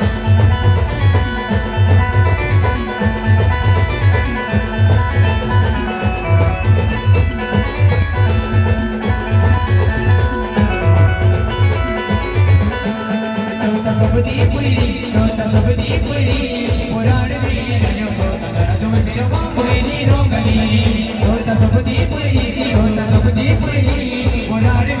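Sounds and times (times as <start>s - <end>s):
heavy repeating drum beat: 0.0s - 25.0s
plucked-string melody: 0.0s - 25.0s.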